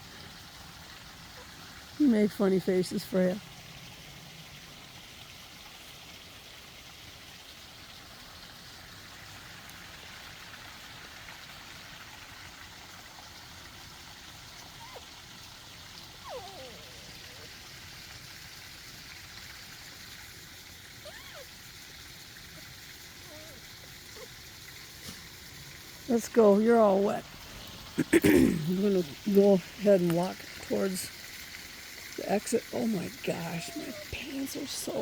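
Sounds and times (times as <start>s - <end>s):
forest stream trickling: 0.0s - 35.0s.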